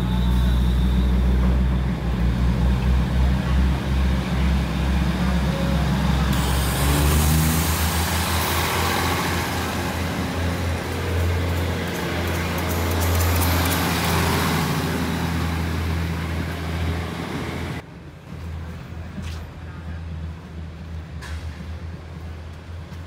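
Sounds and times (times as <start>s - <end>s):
train engine drone: 0.0s - 23.0s
train wheels on rails: 0.0s - 23.0s.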